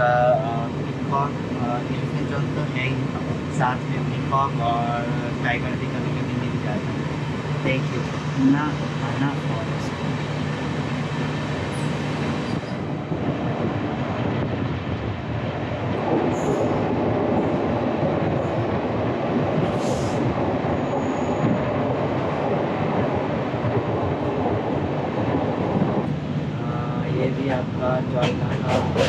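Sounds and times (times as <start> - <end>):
train wheels rolling on rails: 0.0 - 29.0
rushing air: 4.8 - 29.0.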